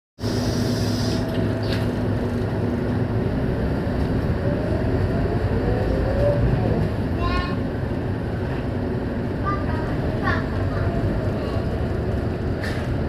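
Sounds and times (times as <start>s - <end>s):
bus engine rumbling: 0.2s - 13.0s.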